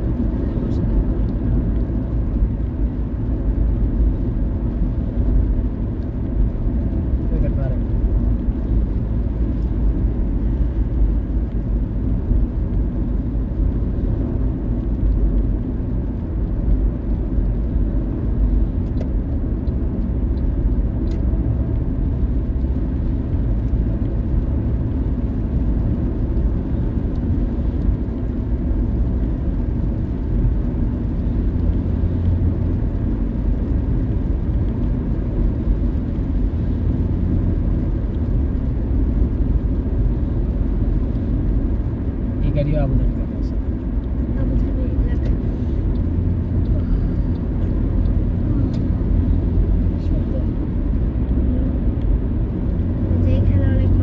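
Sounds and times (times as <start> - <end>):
car cabin tyre and engine rumble: 0.0 - 54.0.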